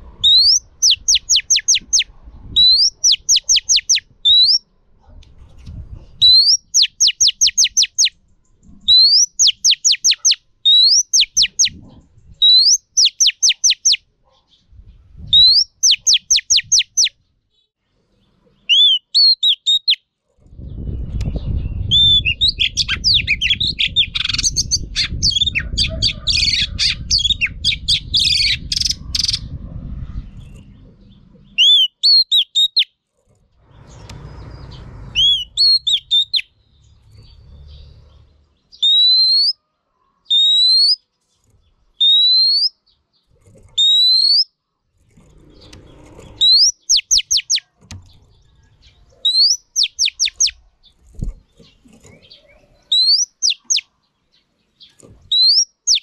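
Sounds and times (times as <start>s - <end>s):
bird singing: 0.0s - 4.7s, 6.2s - 14.7s, 15.3s - 29.5s, 30.1s - 33.0s, 33.8s - 44.6s, 45.3s - 56.0s.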